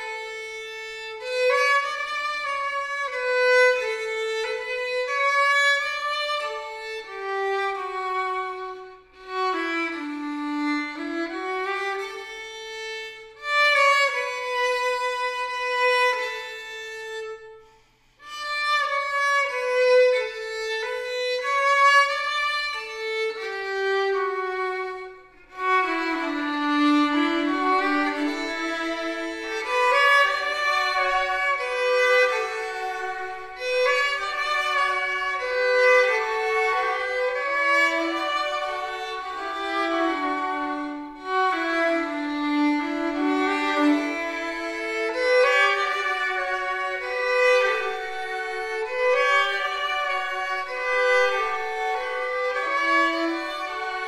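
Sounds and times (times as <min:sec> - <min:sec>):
violin melody: 0:00.0 - 0:54.0.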